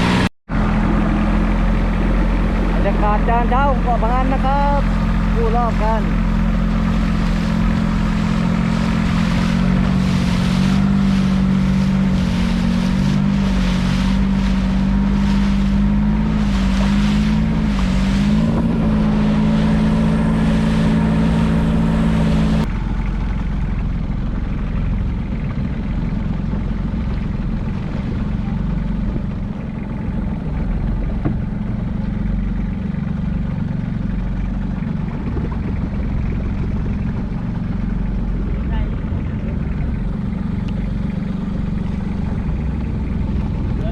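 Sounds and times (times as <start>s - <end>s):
boat engine droning: 0.0s - 43.9s
water noise: 0.0s - 43.9s
wind: 0.0s - 43.9s.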